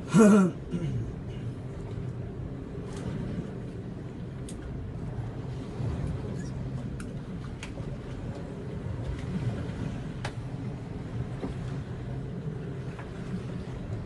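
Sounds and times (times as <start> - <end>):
boat engine running: 0.0 - 14.0
sea noise: 0.0 - 14.0
wind: 0.0 - 14.0.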